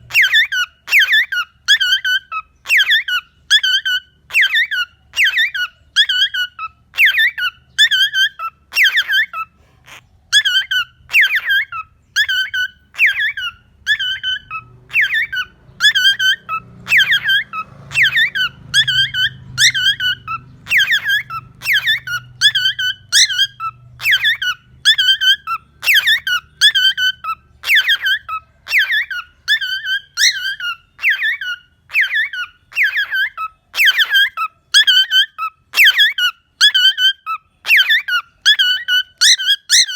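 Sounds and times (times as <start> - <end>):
cockatiel chirping: 0.0 - 39.9.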